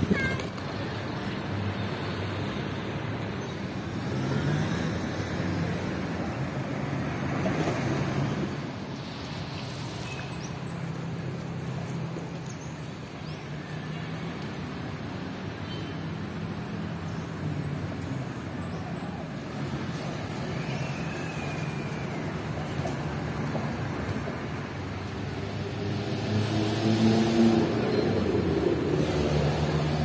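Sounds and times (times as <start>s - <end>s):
cars passing by: 0.0s - 30.0s.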